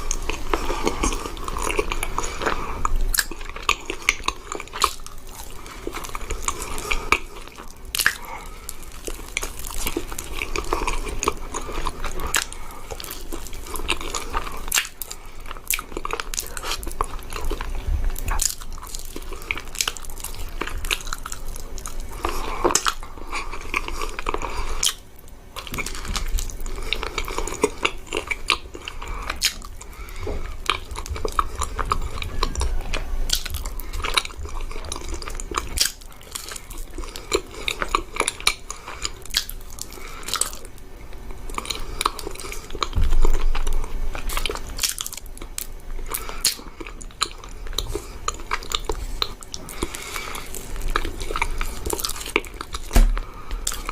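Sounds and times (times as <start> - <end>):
crunching: 0.0 - 25.0, 25.6 - 53.9
biting and chewing: 0.0 - 53.9.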